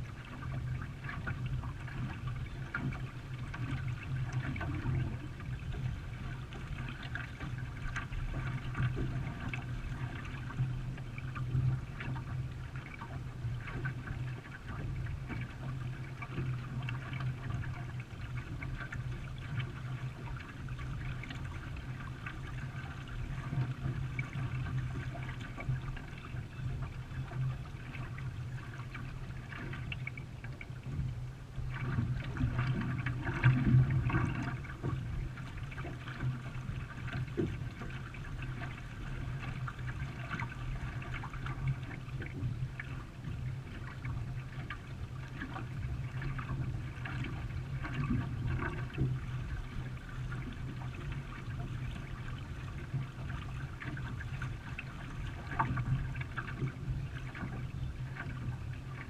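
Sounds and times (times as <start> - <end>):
canoe paddles splashing water: 0.0 - 59.0
steady low hum: 0.0 - 59.0
water trickling: 0.0 - 59.0.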